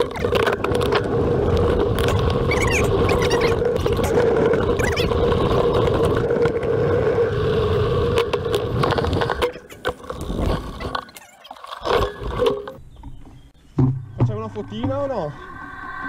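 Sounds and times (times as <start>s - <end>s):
bike tyres rolling on rough trail: 0.0s - 15.3s.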